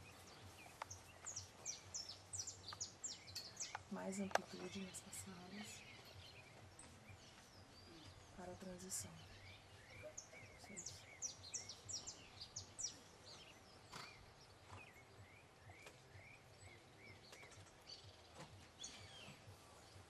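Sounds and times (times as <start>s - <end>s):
birds chirping: 0.0s - 20.0s
outdoor background hiss: 0.0s - 20.0s.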